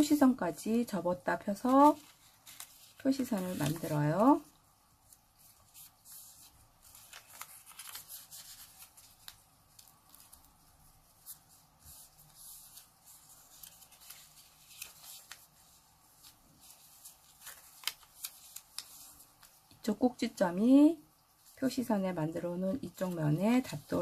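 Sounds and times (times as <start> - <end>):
paper being folded and creased: 0.9 - 20.3, 22.7 - 24.0.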